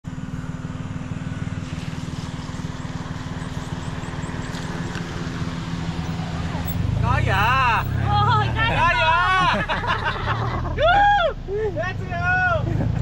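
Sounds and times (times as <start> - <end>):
road and wind noise: 0.0 - 13.0
van engine running: 0.0 - 13.0.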